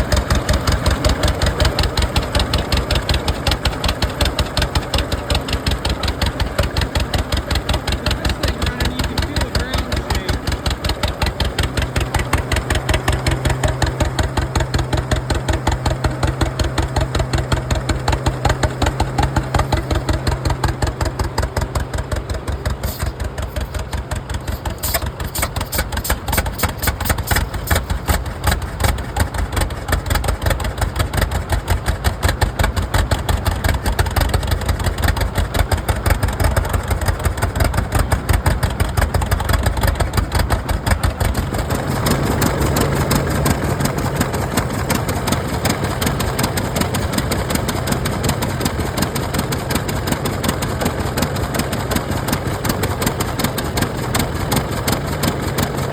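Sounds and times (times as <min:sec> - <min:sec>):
tractor engines pulsing: 0:00.0 - 0:55.9.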